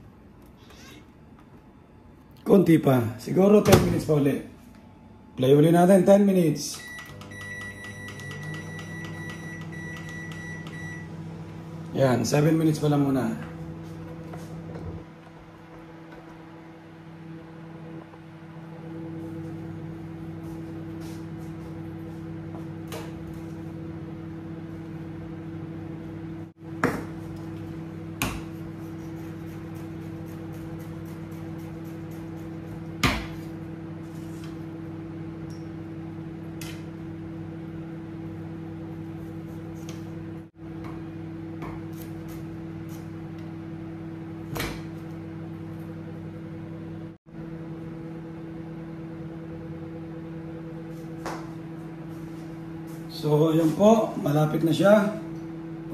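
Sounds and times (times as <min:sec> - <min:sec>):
microwave oven humming: 0:00.0 - 0:55.9.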